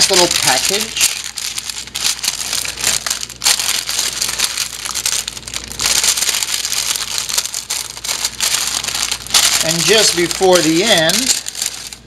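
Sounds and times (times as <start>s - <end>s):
parchment paper crinkling: 0.0s - 12.0s.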